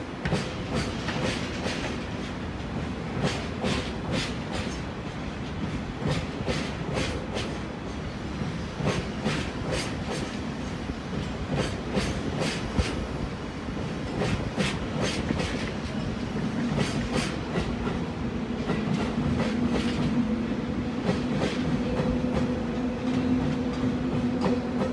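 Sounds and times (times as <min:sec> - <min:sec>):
train wheels clicking over rail joints: 0:00.2 - 0:13.1, 0:14.0 - 0:20.3, 0:21.0 - 0:24.9.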